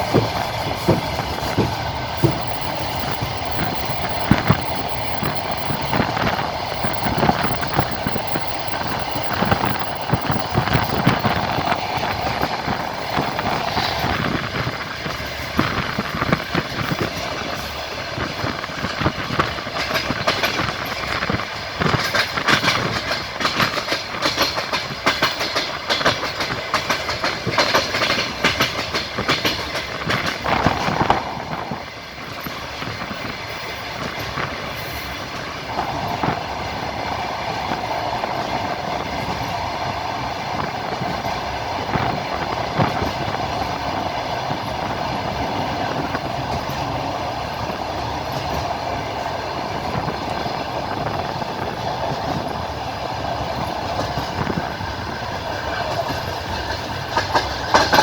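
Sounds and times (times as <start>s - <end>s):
train carriage rumbling: 0.0s - 58.0s
wheels clattering over rail joints: 0.0s - 58.0s.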